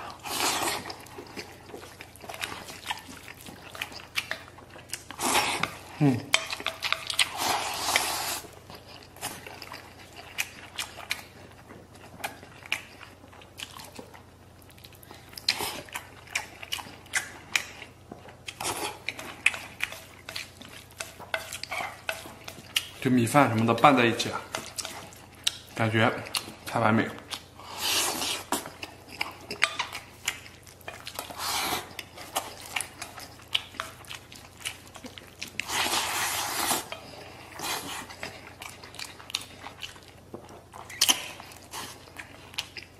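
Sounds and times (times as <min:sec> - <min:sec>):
chewing and slurping: 0:00.0 - 0:42.9.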